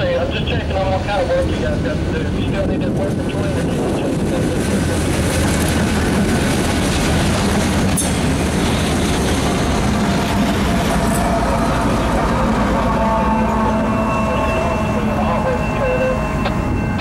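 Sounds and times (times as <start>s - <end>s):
diesel locomotive engine rumble: 0.0s - 17.0s
steel wheels rolling on rail: 0.0s - 17.0s.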